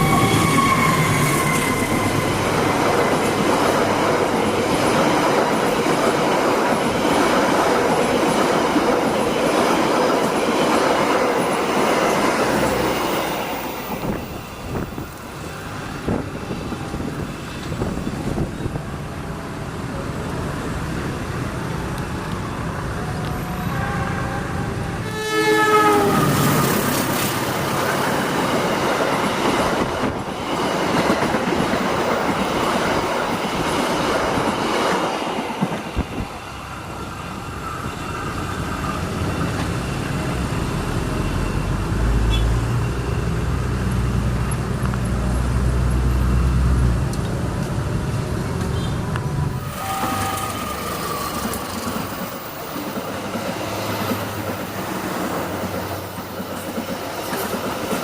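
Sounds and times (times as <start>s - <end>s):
heavy low train rumble: 0.0s - 58.0s
train wheels on track: 0.0s - 58.0s.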